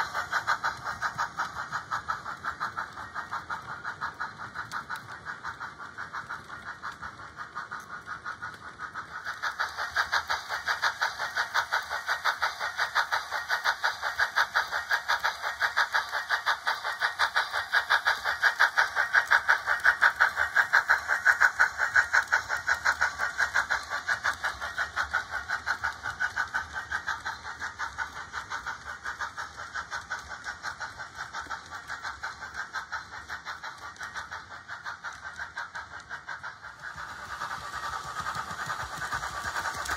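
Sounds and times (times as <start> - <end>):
model steam engine chuffing: 0.0 - 39.9.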